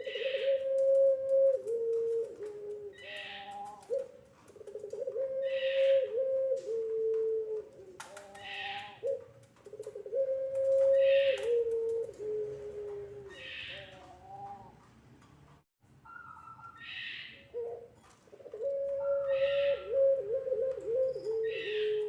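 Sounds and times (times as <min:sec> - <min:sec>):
dove cooing: 0:00.0 - 0:14.9, 0:16.1 - 0:22.0.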